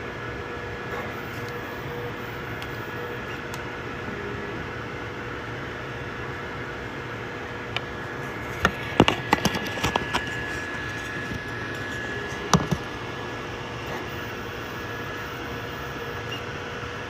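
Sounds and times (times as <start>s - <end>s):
fan and motor hum: 0.0s - 17.0s
thin steady whine: 0.0s - 17.0s.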